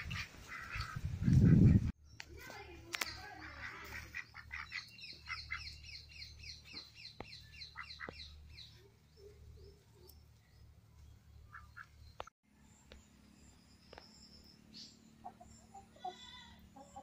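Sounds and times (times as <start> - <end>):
small bird chirping: 2.0 - 17.0.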